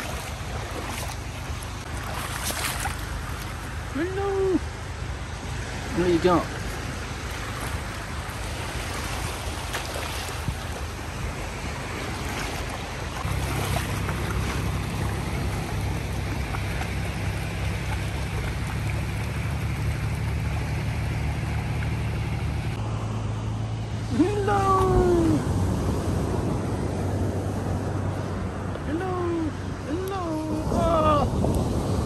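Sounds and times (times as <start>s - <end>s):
wind rumbling on microphone: 0.0s - 32.0s.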